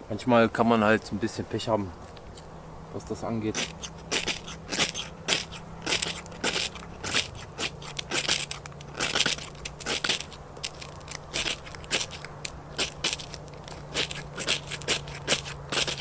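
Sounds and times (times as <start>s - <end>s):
tinder scraping and crunching: 0.0s - 16.0s.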